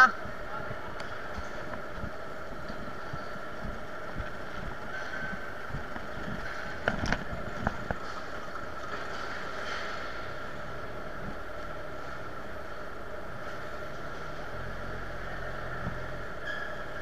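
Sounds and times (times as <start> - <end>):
baggage machinery drone: 0.1 - 17.0.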